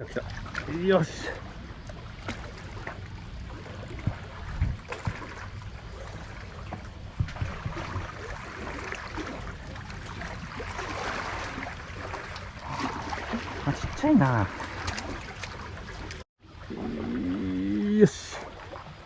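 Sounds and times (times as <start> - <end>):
sea water washing and trickling: 0.0 - 19.0.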